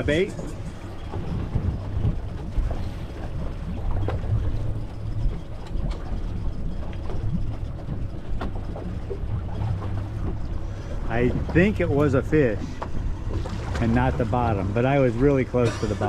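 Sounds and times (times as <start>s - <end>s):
low rumble of wind and water: 0.0s - 16.0s.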